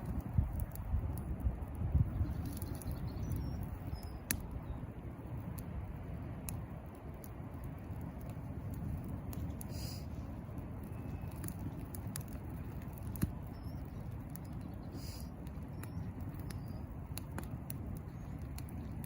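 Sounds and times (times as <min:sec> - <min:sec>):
fire crackling: 0:00.0 - 0:19.0.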